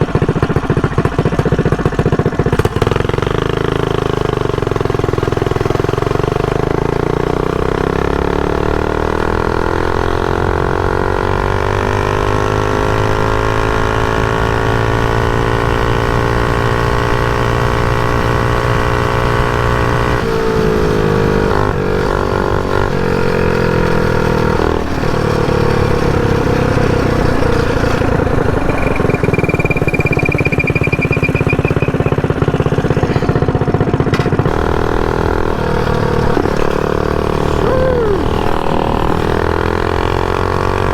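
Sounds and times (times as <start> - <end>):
mini bike engine running: 0.0 - 40.9.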